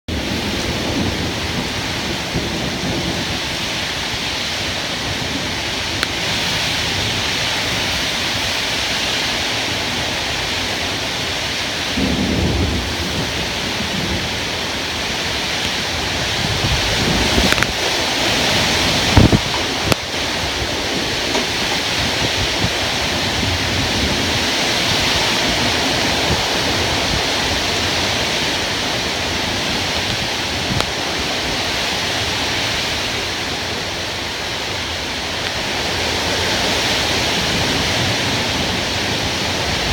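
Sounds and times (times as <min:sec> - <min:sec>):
heavy rain: 0:00.1 - 0:39.9
thunder rumbling: 0:00.1 - 0:39.9.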